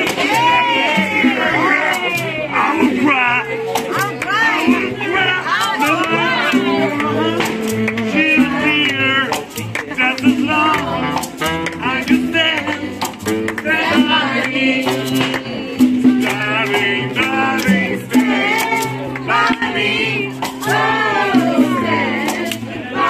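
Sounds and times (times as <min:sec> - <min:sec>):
people singing: 0:00.0 - 0:23.0
plucked double bass: 0:00.0 - 0:23.0
saxophone: 0:00.0 - 0:23.0
sharp rhythmic clicks: 0:01.3 - 0:22.7.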